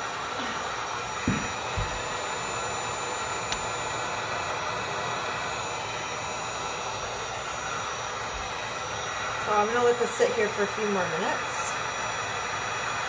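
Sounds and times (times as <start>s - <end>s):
heat gun blowing air: 0.0s - 13.0s.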